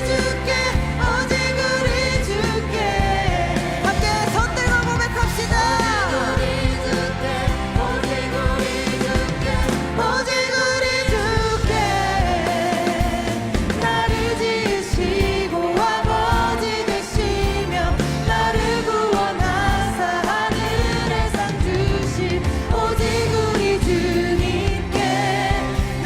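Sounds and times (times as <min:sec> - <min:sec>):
worship band with singers: 0:00.0 - 0:26.0.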